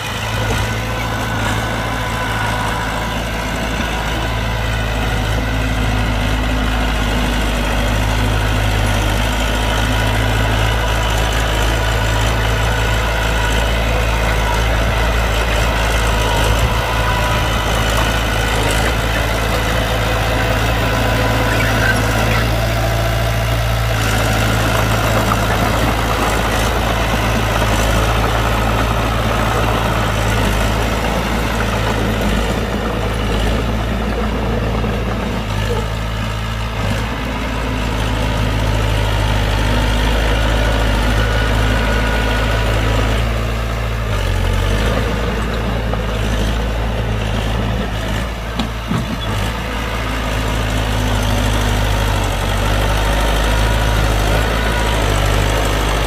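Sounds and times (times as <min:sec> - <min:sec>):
diesel engine deep rumble: 0:00.0 - 0:56.0.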